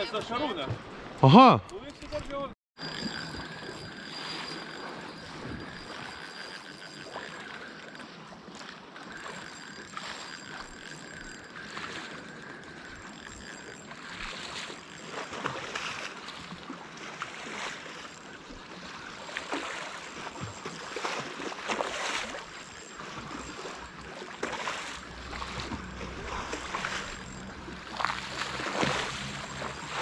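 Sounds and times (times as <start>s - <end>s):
sea water lapping on shore: 2.8s - 30.0s.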